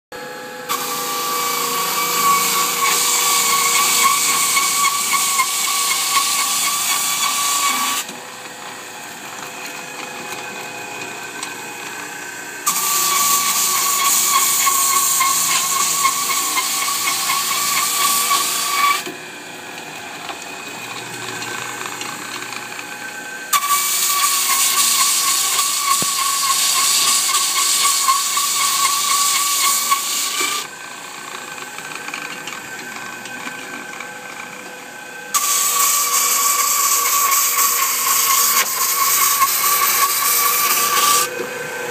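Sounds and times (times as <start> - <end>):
floor sander grinding wood: 0.1 - 41.9
sander motor running: 0.2 - 41.9.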